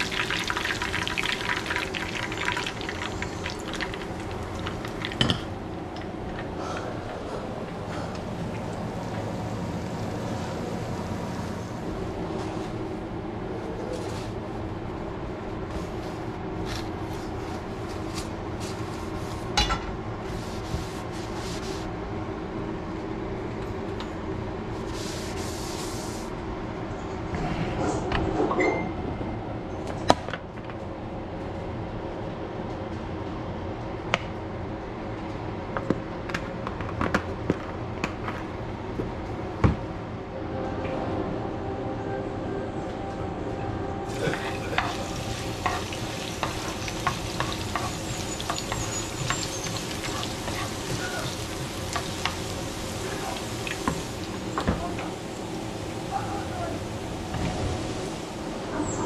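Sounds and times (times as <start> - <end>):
electric fan humming: 0.0 - 26.8, 37.8 - 58.9.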